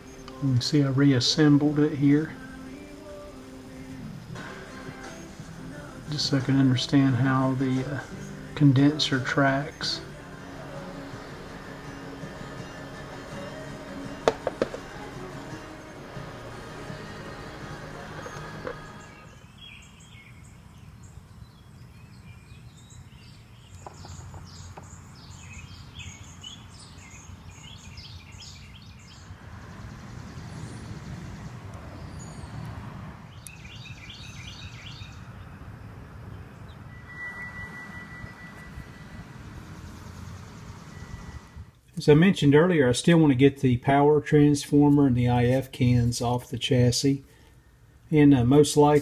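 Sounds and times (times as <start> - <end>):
small birds chirping: 0.0 - 42.1.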